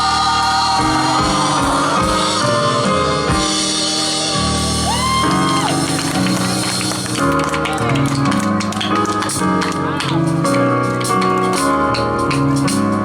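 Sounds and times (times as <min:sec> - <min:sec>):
live gospel band music: 0:00.0 - 0:13.0.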